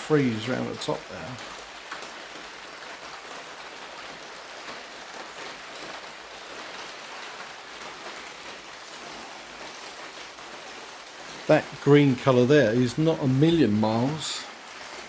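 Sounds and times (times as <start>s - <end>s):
rain on a tarpaulin: 0.0s - 15.0s
raindrop hits: 0.0s - 15.0s.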